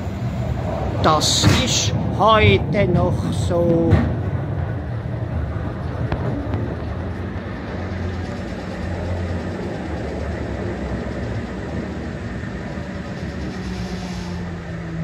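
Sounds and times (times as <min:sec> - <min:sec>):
funicular car running on cable: 0:00.0 - 0:15.0.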